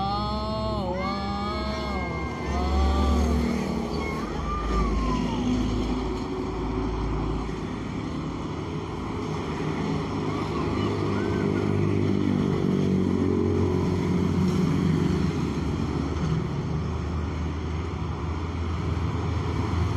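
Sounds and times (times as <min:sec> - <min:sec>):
motorcycles passing: 0:00.0 - 0:16.8
truck engine rumble: 0:00.0 - 0:19.9.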